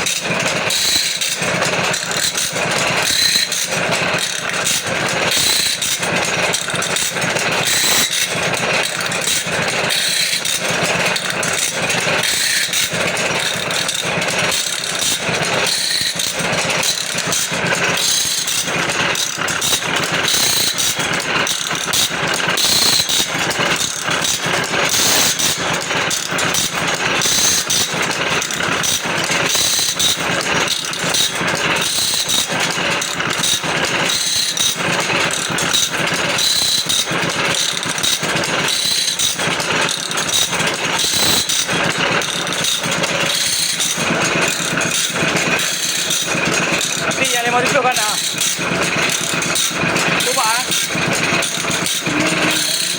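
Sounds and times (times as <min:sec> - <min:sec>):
feed pawl ratcheting clicks: 0:00.0 - 0:52.9
grinding wheel on saw teeth: 0:00.0 - 0:52.9.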